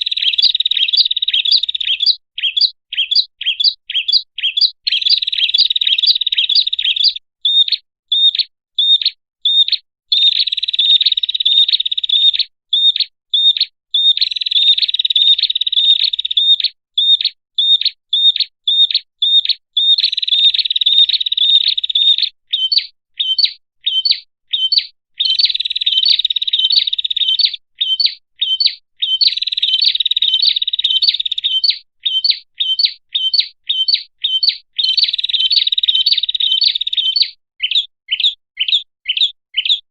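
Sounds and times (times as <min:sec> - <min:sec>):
bird song with chattering trill: 0:00.0 - 0:39.9.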